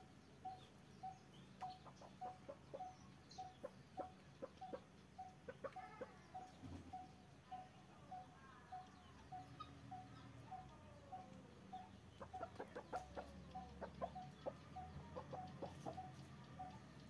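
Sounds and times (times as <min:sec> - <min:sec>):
sharp clicking bird calls: 0:00.0 - 0:17.0.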